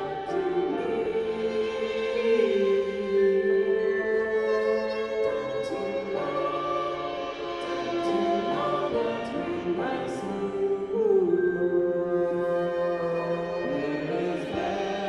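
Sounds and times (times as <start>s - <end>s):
piano: 0.0s - 15.0s
violin: 0.0s - 15.0s.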